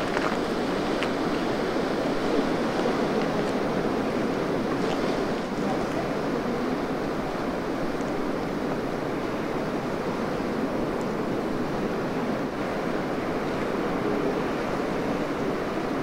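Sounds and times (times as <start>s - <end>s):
sea surf: 0.0s - 16.0s
wind: 0.0s - 16.0s.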